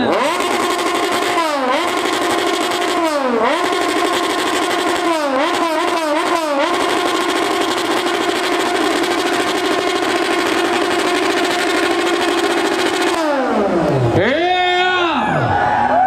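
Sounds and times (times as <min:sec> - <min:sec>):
superbike engine revving hard: 0:00.0 - 0:14.3.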